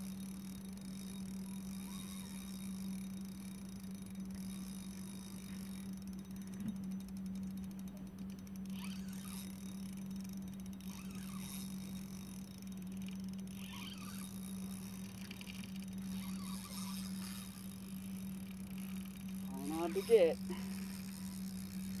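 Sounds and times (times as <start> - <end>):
fishing reel gears ticking: 0.0 - 22.0
low hum: 0.0 - 22.0.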